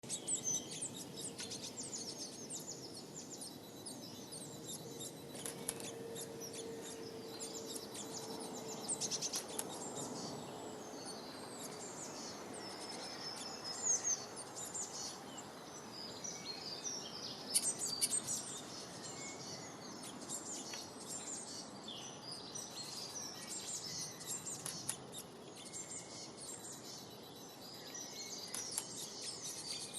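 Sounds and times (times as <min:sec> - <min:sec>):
outdoor background hiss: 0:00.0 - 0:29.9
small birds chirping: 0:00.0 - 0:29.9.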